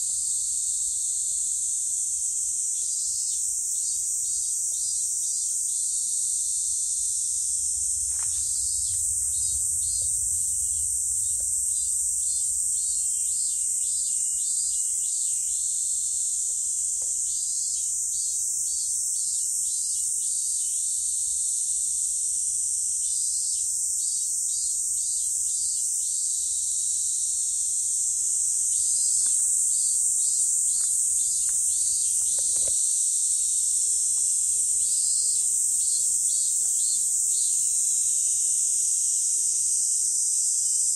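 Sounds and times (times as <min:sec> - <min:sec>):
cicadas high-pitched drone: 0:00.0 - 0:40.9
pulsing insect call: 0:02.8 - 0:21.2, 0:23.4 - 0:39.8.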